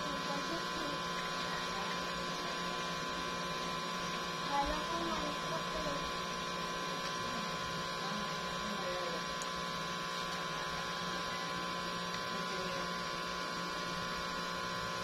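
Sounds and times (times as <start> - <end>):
hum with constant tones: 0.0 - 15.0.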